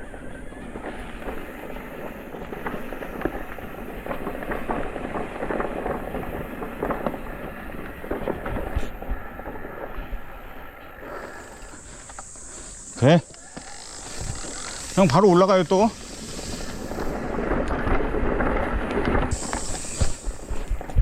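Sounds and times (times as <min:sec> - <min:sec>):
bike rattling over rough ground: 0:00.0 - 0:21.0.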